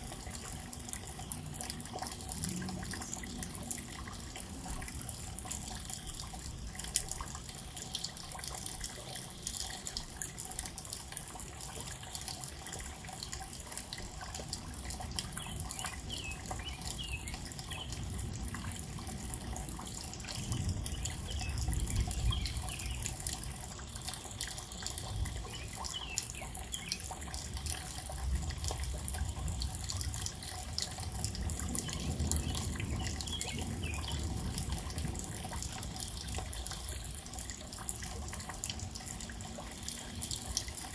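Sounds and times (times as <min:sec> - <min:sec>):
close drips: 0:00.0 - 0:40.9
rain falling: 0:00.0 - 0:40.9.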